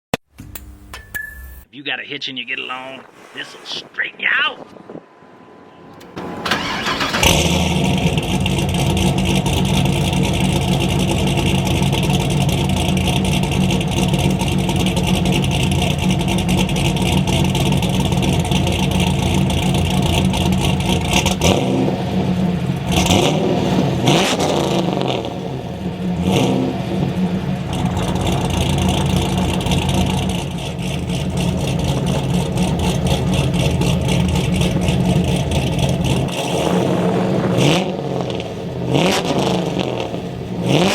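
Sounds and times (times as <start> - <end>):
car engine deep exhaust note: 3.8 - 40.9.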